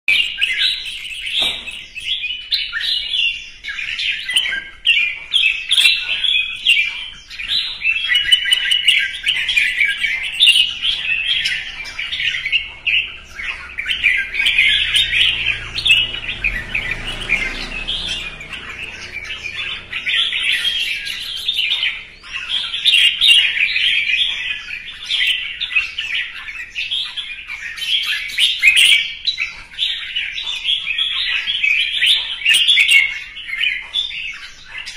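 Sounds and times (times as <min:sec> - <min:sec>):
bird chattering song: 0:00.1 - 0:34.9.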